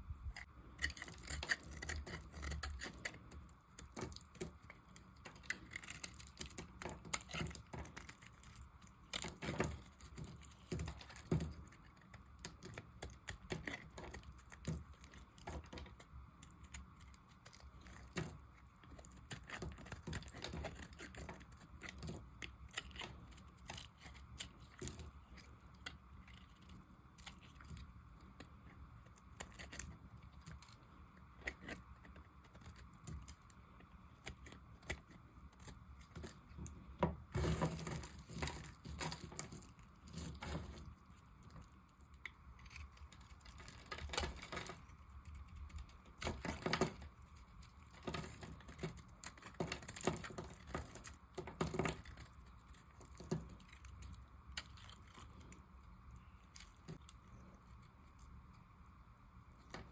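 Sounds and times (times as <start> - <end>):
knife cutting dry soap: 0.3 - 55.6.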